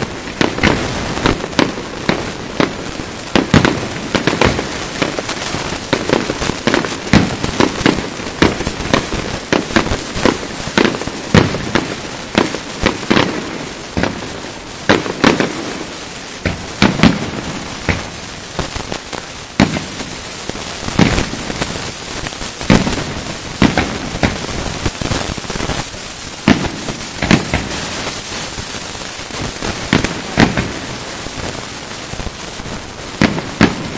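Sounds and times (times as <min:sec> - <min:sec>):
crackling hiss: 0:00.0 - 0:33.9
firework shells bursting: 0:00.0 - 0:33.9.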